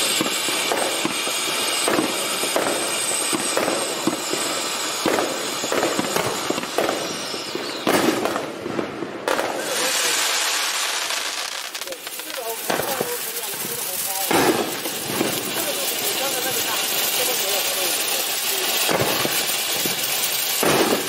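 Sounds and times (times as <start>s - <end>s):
firework fountain hissing and crackling: 0.0s - 21.0s.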